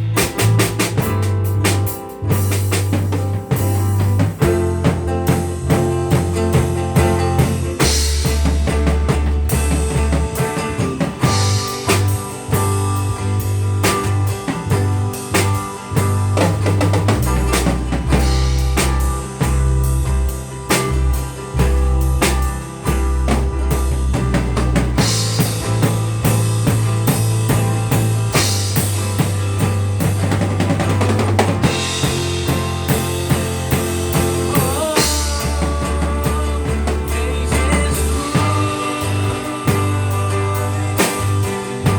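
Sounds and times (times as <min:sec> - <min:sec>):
bass line: 0:00.0 - 0:41.9
drum kit beat: 0:00.0 - 0:41.9
live band playing: 0:00.0 - 0:41.9.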